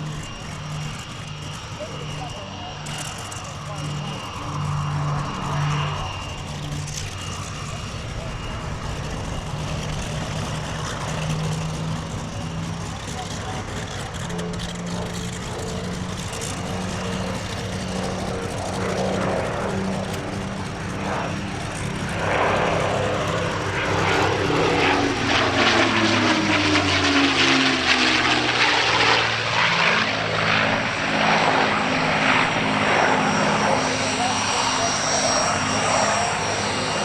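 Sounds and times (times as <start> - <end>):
propeller aircraft engines passing: 0.0 - 37.0.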